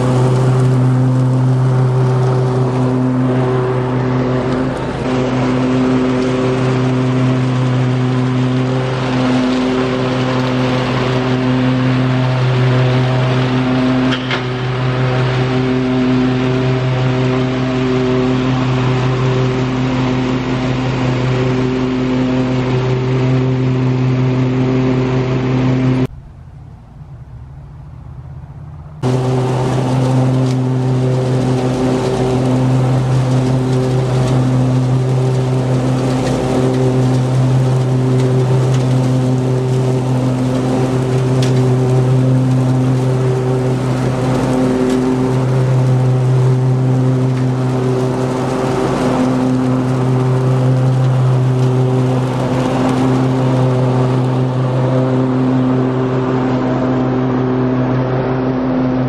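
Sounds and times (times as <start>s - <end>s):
lawn mower engine droning: 0.0s - 59.0s.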